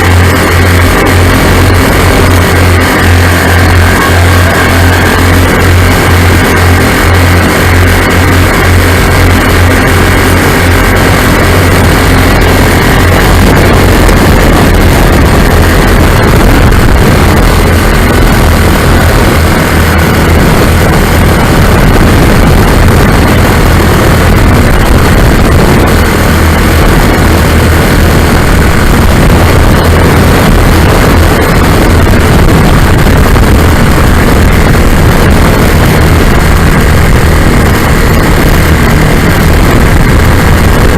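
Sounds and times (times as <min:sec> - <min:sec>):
aircraft engines droning: 0:00.0 - 0:40.9
wind rush: 0:00.0 - 0:40.9.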